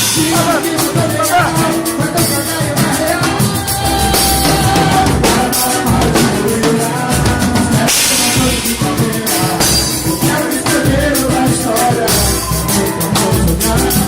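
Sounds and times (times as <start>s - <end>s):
drum kit playing a steady beat: 0.0s - 14.0s.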